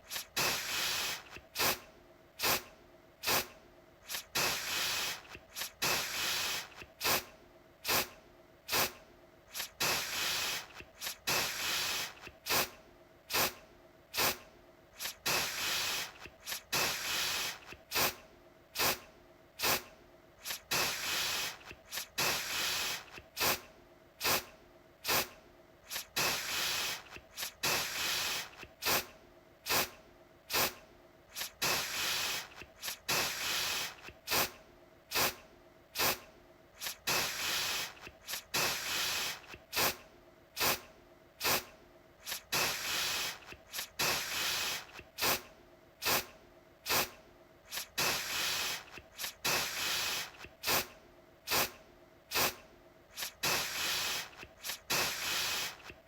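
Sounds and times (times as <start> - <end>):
aerosol can spraying: 0.0 - 1.8, 2.4 - 8.1, 8.7 - 14.4, 15.0 - 18.2, 18.8 - 19.0, 19.6 - 29.1, 29.7 - 35.4, 36.0 - 36.2, 36.8 - 40.0, 40.6 - 40.8, 41.4 - 50.9, 51.5 - 56.0.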